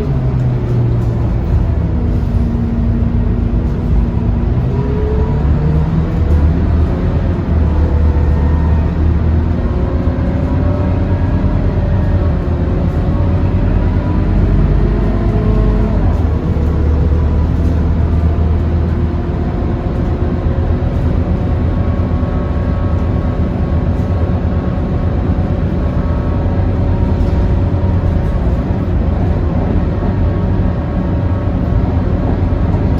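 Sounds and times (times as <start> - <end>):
bus diesel engine rumbling: 0.0 - 32.9
engine whine rising and falling: 0.0 - 32.9.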